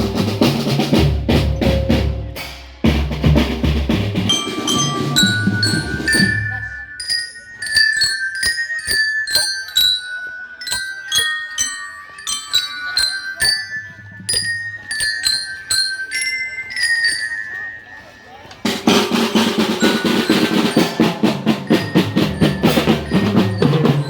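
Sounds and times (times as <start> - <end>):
glockenspiel melody: 0.0 - 2.4, 4.2 - 24.0
drums: 0.0 - 24.0.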